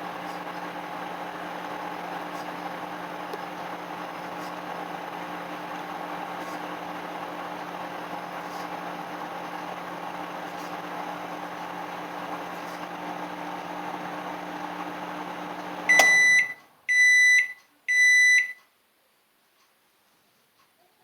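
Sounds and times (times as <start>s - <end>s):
microwave oven humming: 0.0s - 18.6s.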